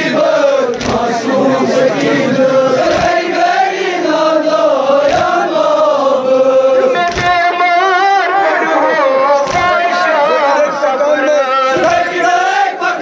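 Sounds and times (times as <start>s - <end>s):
voices chanting a lament: 0.0s - 13.0s.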